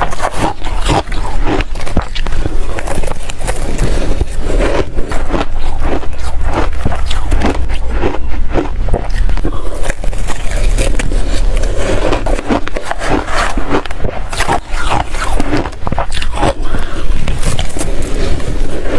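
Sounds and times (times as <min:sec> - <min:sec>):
ice crunching being chewed: 0:00.0 - 0:18.9.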